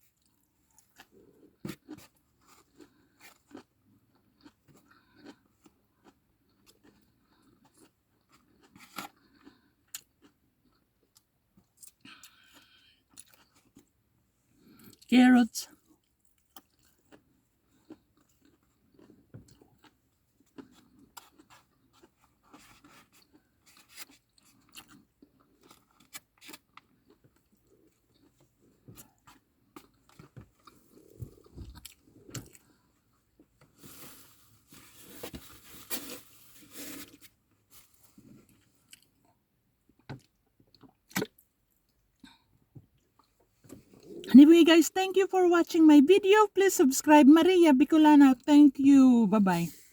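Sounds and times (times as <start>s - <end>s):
person chewing and crunching food: 0.0s - 15.1s, 15.8s - 35.2s, 35.9s - 44.3s.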